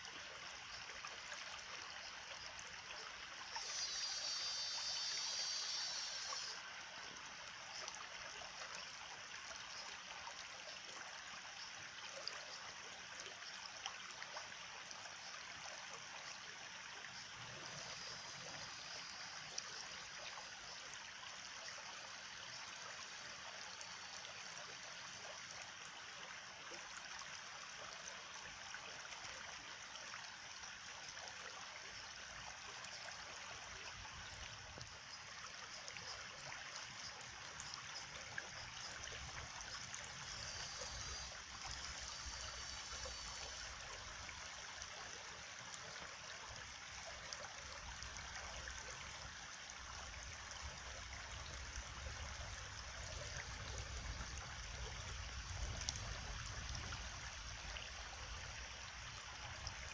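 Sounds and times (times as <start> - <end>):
stream trickling and gurgling: 0.0 - 59.9.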